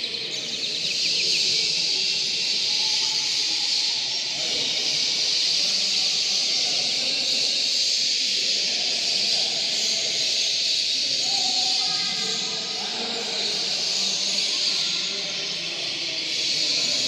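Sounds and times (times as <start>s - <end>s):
caged birds singing and chirping: 0.0s - 17.0s
murmur of voices: 0.0s - 17.0s.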